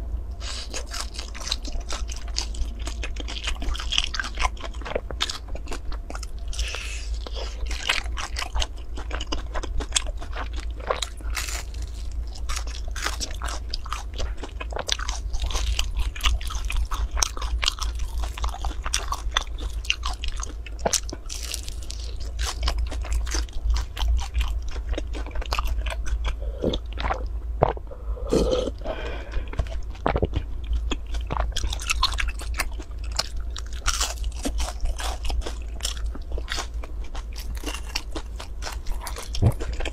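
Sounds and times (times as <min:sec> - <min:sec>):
low steady hum: 0:00.0 - 0:39.9
crunching and chewing food: 0:00.4 - 0:39.9.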